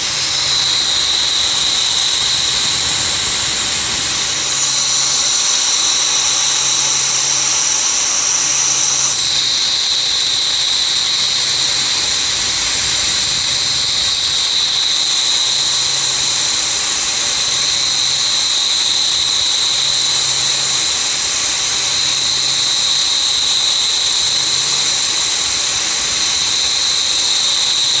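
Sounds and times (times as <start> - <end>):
router spindle whining: 0.0 - 28.0.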